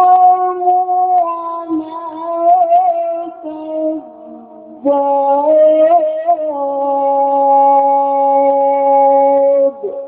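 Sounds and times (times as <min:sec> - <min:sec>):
person chanting melodically: 0:00.0 - 0:10.0.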